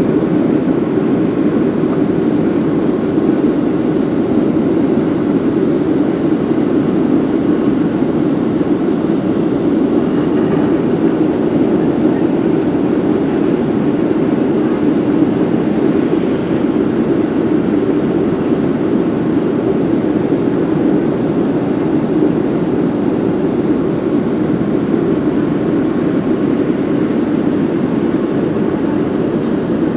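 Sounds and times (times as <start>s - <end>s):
jet engine drone in cabin: 0.0s - 29.9s
rushing air: 0.0s - 29.9s.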